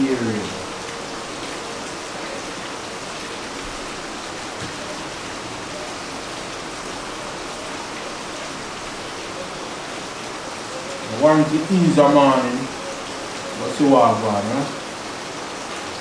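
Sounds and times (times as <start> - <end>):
steady rain pouring: 0.0 - 16.0.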